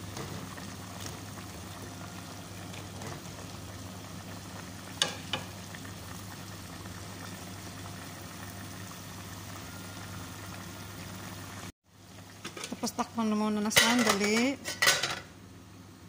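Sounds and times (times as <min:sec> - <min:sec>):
water simmering in a pot: 0:00.0 - 0:14.6.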